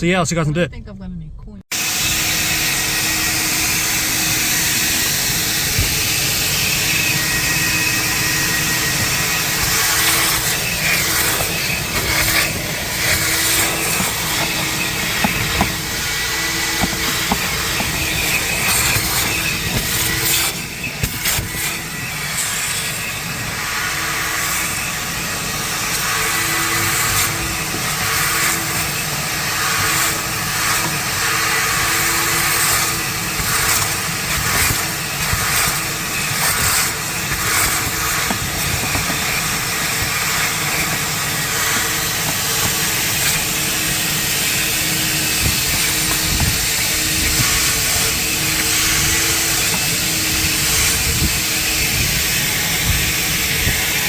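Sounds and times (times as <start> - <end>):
vacuum hose sucking air: 1.7 - 54.0.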